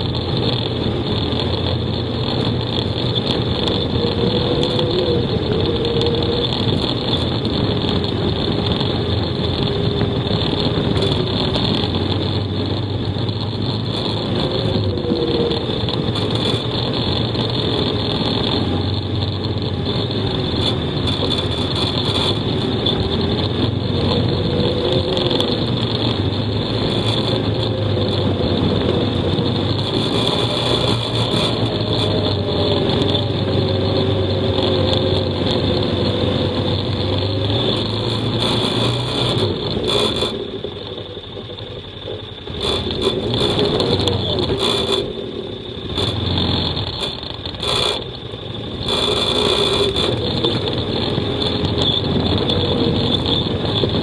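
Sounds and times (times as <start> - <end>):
quad bike engine running: 0.0 - 54.0
steady high whine: 0.0 - 54.0.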